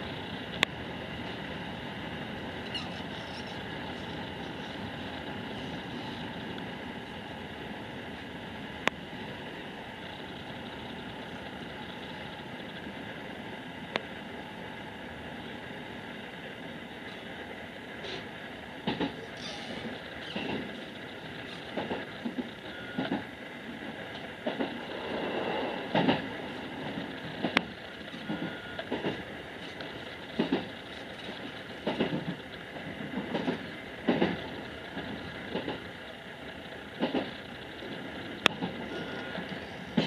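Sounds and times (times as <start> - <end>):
train running rumble: 0.0 - 40.0.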